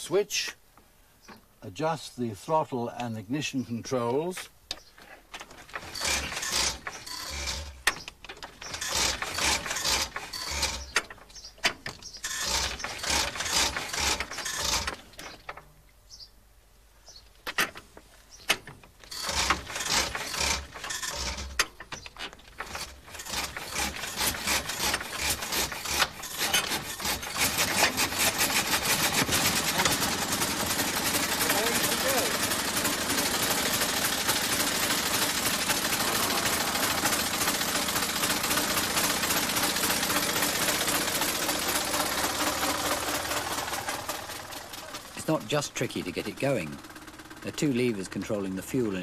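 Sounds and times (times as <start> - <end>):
engine cranking clicks and knocks: 5.3 - 15.8, 17.4 - 49.0.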